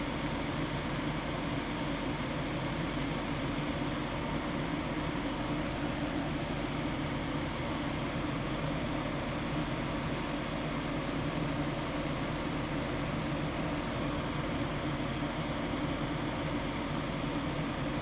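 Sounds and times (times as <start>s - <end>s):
fan humming and hissing: 0.0s - 18.0s.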